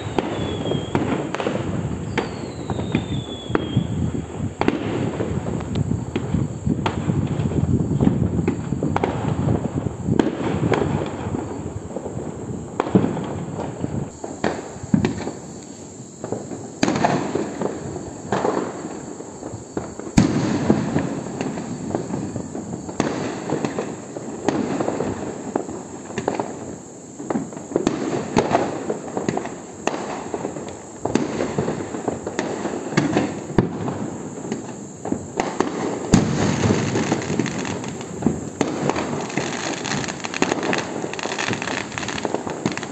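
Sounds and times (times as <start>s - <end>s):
firework bangs and crackling: 0.0s - 42.9s.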